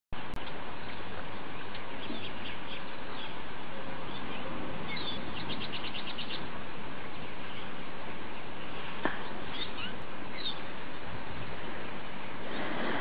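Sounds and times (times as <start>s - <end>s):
steady background hiss: 0.2s - 13.0s
small birds chirping: 0.3s - 13.0s.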